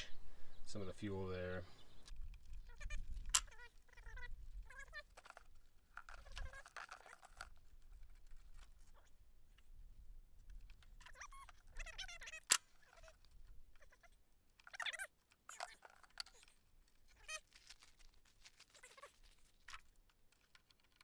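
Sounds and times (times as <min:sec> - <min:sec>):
hands and tools handling: 0:01.6 - 0:21.0.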